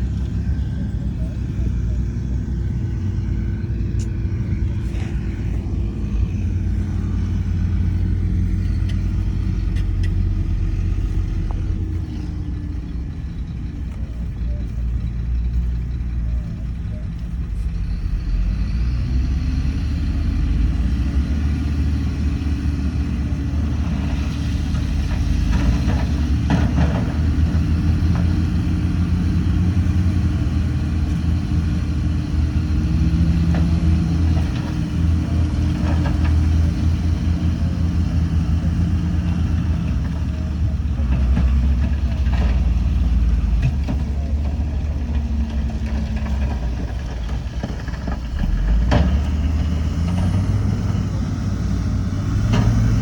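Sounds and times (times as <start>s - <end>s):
bulldozer diesel engine under load: 0.0s - 53.0s.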